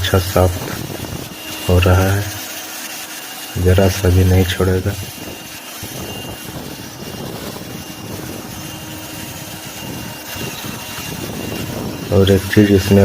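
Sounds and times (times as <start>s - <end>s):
handheld vacuum cleaner running: 0.0s - 13.0s.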